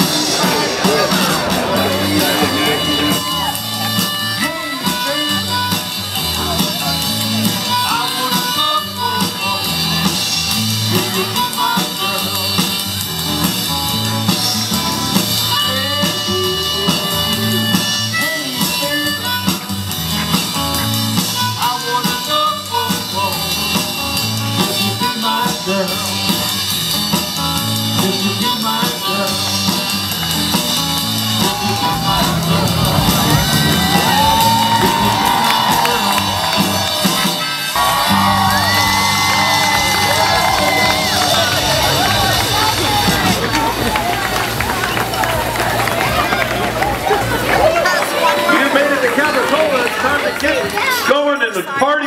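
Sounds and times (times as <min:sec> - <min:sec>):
rock band with singing: 0:00.0 - 0:52.0.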